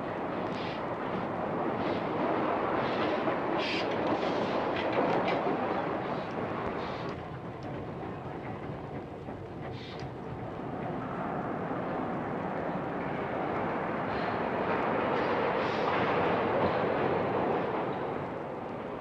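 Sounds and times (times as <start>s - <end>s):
subway train rumbling on track: 0.0s - 19.0s.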